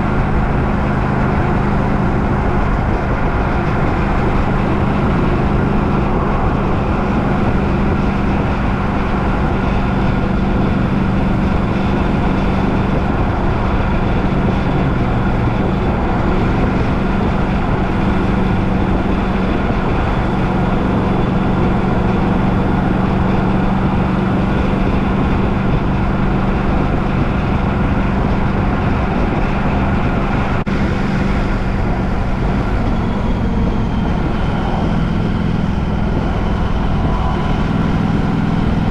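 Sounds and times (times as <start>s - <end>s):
vehicle engine hum: 0.0s - 38.9s.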